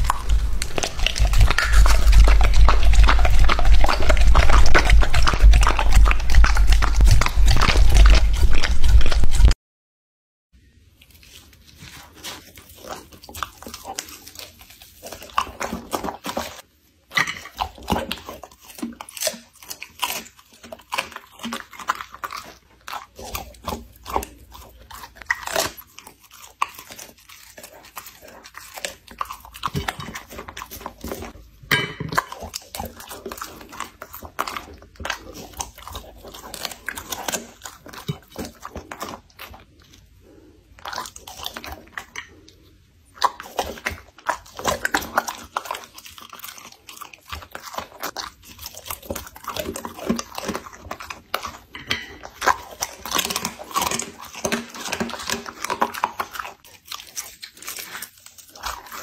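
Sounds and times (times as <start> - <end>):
dog crunching food: 0.0 - 9.6, 11.0 - 59.0.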